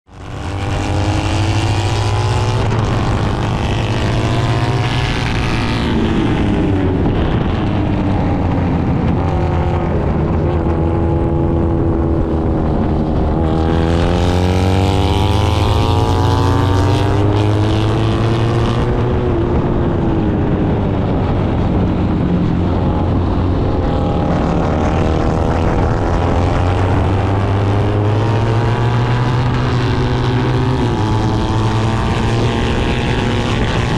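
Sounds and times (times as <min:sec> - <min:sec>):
racing motorcycle engine: 0:00.1 - 0:33.9
wind rushing over microphone: 0:00.1 - 0:33.9.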